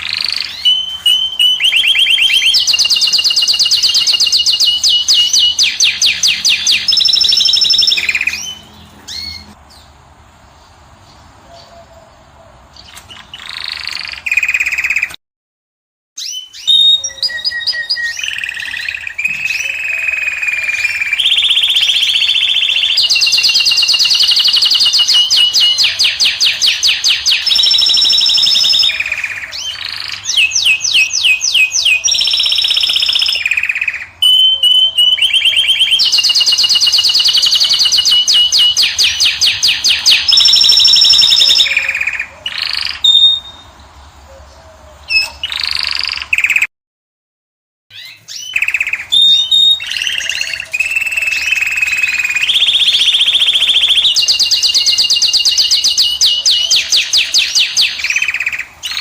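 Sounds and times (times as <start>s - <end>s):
finch singing trills and whistles: 0.0s - 9.8s, 12.8s - 15.2s, 16.2s - 46.7s, 47.9s - 59.0s.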